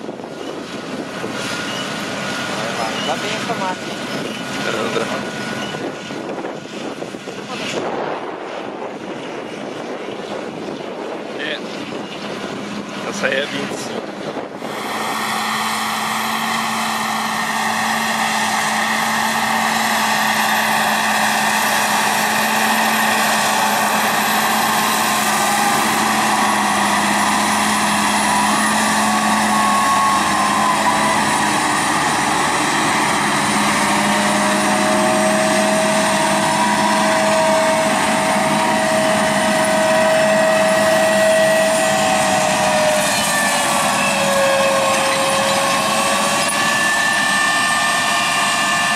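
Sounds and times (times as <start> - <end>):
diesel engine drone: 0.0 - 48.9
machinery whining: 0.0 - 48.9.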